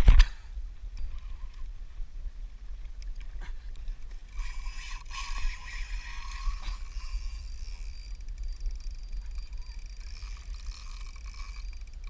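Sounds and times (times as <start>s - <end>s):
wind and water rumbling: 0.0s - 12.0s.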